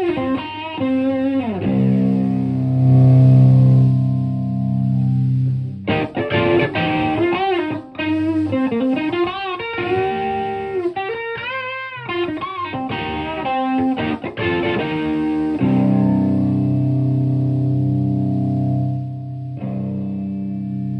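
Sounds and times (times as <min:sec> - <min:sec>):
overdriven electric guitar lead: 0:00.0 - 0:20.9.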